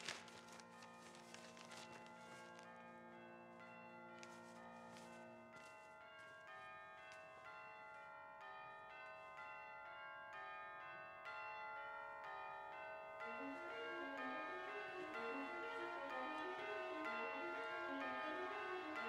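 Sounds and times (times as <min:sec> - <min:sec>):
faint bells pealing: 0:00.0 - 0:19.0.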